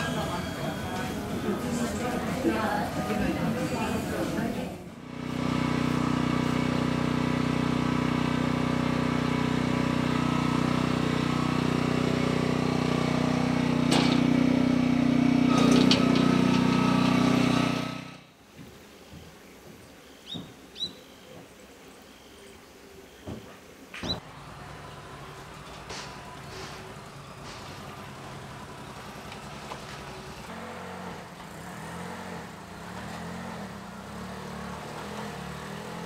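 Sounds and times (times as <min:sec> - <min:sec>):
small engine running: 0:00.0 - 0:18.3, 0:24.2 - 0:36.0.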